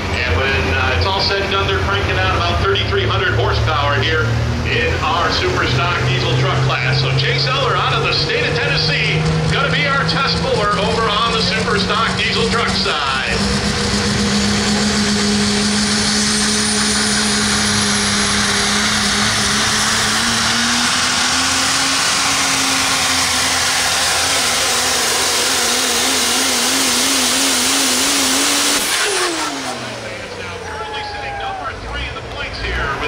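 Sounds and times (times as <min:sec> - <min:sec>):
diesel engine at full power: 0:00.0 - 0:33.0.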